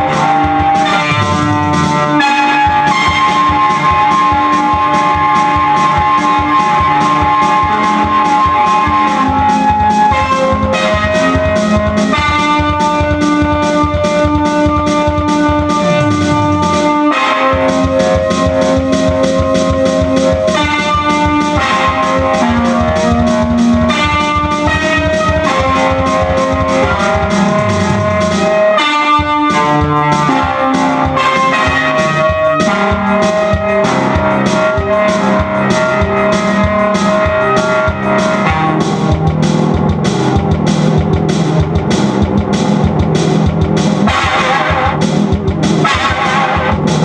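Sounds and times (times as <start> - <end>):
electronic keyboard music: 0.0 - 47.0
quick steady beat: 0.0 - 47.0.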